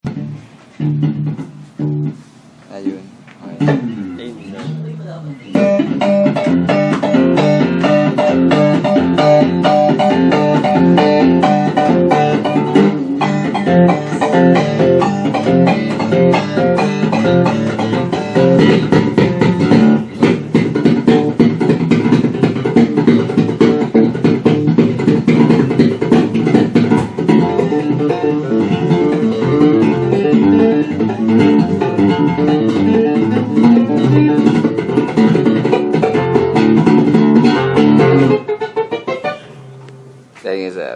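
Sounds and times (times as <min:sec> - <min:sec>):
electric guitar fast picked notes: 0:05.5 - 0:40.3.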